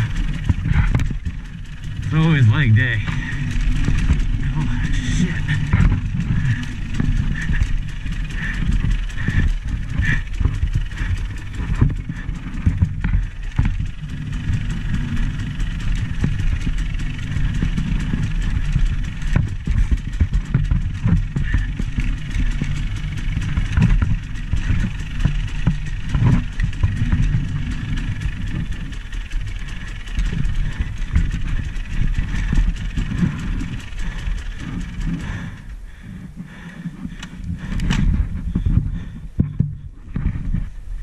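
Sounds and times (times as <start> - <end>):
short knocks and rattles: 0.0 - 35.4
vehicle engine running: 0.0 - 41.0.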